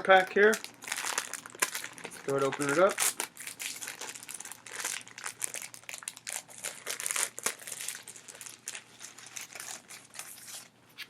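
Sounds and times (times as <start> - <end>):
sticker packaging crinkling: 0.0 - 10.7.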